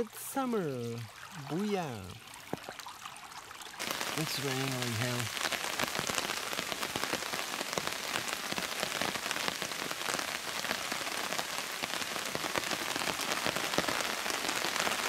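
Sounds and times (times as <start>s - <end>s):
heavy rain on river: 0.0s - 15.0s.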